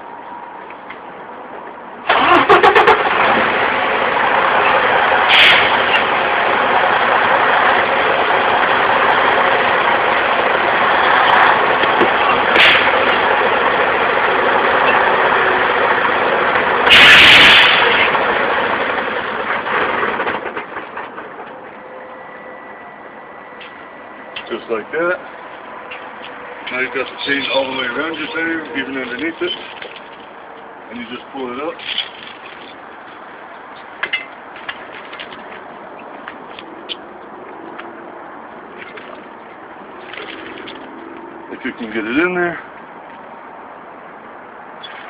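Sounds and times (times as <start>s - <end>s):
diesel truck engine running: 0.0s - 44.8s.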